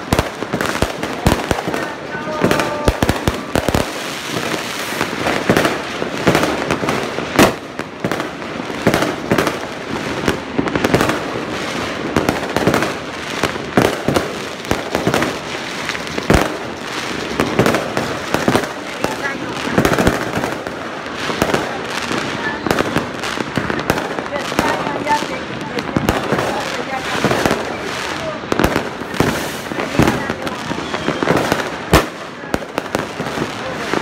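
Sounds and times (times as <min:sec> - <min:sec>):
fireworks crackling and booming: 0:00.0 - 0:34.0
loud firework reports: 0:00.0 - 0:34.0.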